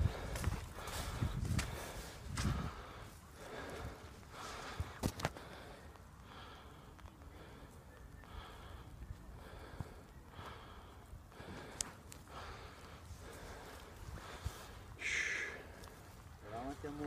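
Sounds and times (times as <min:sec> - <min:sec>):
person breathing: 0:00.0 - 0:16.7.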